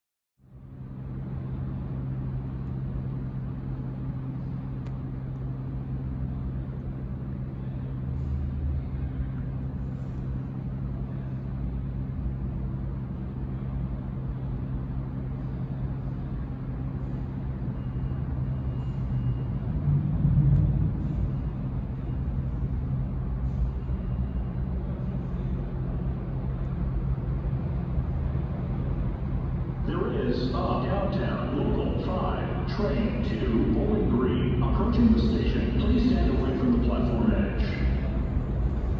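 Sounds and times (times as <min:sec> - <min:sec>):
train rumbling in tunnel: 0:00.4 - 0:38.9.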